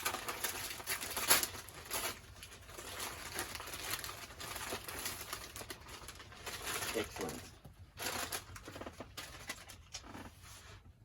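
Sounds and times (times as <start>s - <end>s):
wrapping paper rustling and tearing: 0.0s - 10.8s.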